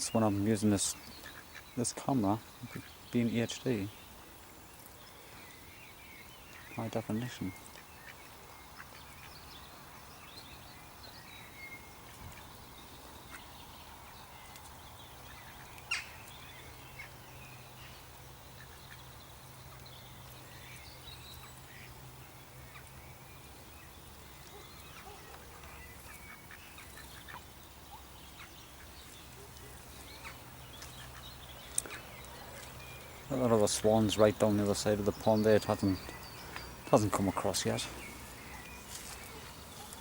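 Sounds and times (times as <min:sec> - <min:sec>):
ducks calling: 0:00.0 - 0:10.1, 0:11.0 - 0:23.2, 0:24.4 - 0:40.0.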